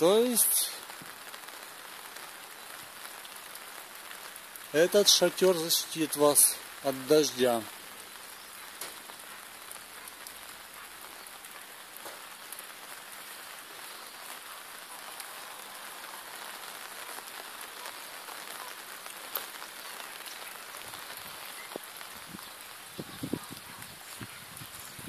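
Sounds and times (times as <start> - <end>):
rain on fabric roof: 0.0 - 25.0.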